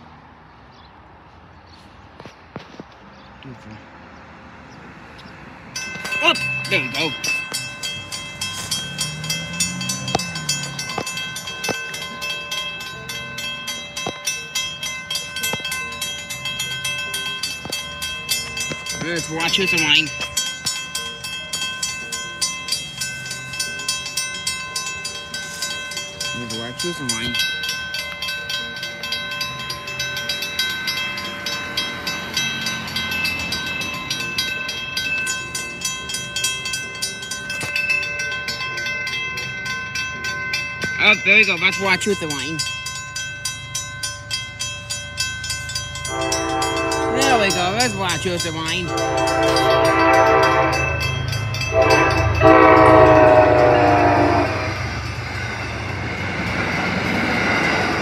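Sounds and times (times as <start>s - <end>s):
railroad crossing bell ringing: 5.5s - 58.0s.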